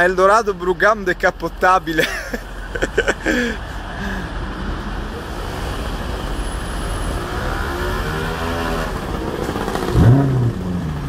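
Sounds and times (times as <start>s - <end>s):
car engine at low speed: 0.0s - 11.0s
street traffic noise: 0.0s - 11.0s.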